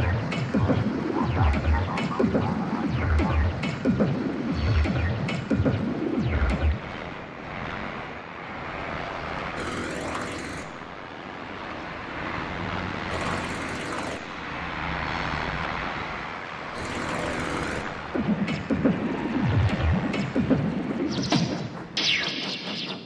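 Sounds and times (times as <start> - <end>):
machine-like noise drone: 0.0 - 23.0.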